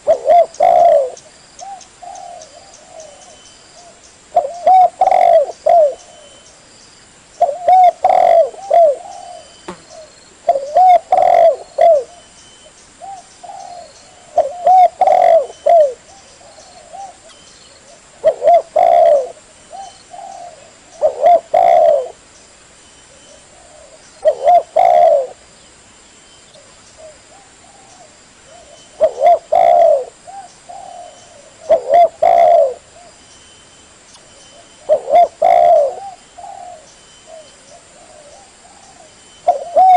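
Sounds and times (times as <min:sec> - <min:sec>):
dove cooing: 0:00.0 - 0:06.4, 0:07.4 - 0:12.3, 0:13.0 - 0:22.2, 0:23.1 - 0:25.4, 0:26.6 - 0:33.2, 0:34.5 - 0:39.9.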